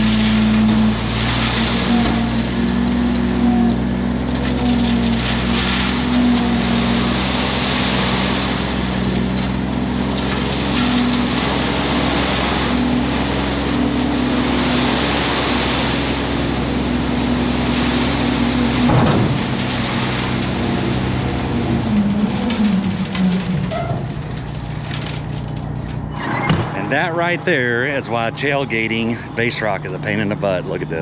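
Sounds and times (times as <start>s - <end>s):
rock pouring and rattling: 0.0s - 26.1s
diesel truck engine running: 0.0s - 31.0s.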